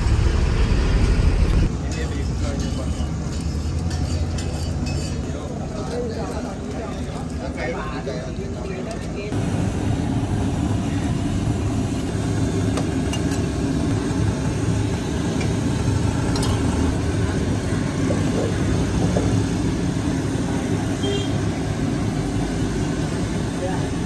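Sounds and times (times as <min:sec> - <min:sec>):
low rumble of street noise: 0:00.0 - 0:24.0.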